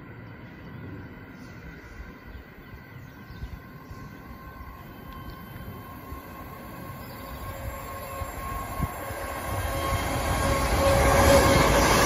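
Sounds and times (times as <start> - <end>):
electric train two-tone whine: 0.0 - 12.0
train wheels rumbling on rail: 0.0 - 12.0.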